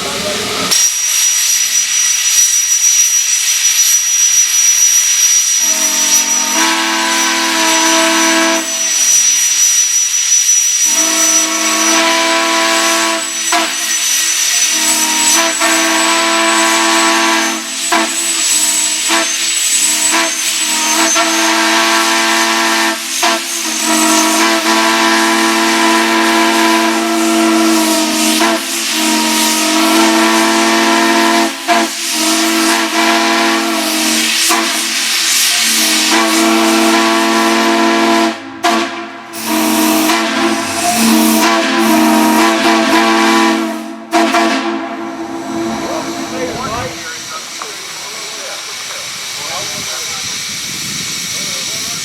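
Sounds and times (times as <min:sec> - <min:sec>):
steam hissing: 0:00.0 - 0:52.0
deep-toned steam whistle blasts: 0:00.7 - 0:47.6.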